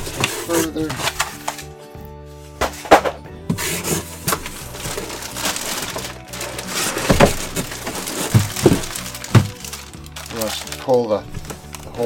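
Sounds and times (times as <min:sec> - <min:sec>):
cardboard box being opened: 0:00.0 - 0:01.6, 0:03.5 - 0:12.0
soft background music: 0:00.0 - 0:12.0.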